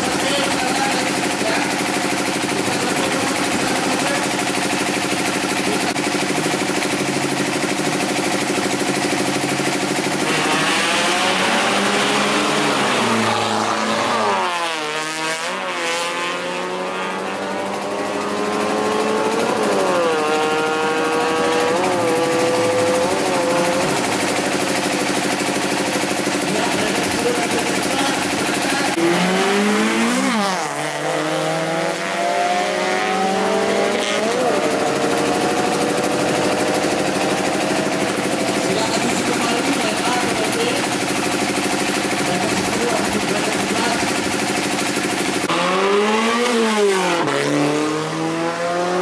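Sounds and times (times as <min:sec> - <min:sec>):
engine revving and accelerating: 0:00.0 - 0:49.0
race car engines running: 0:00.0 - 0:49.0.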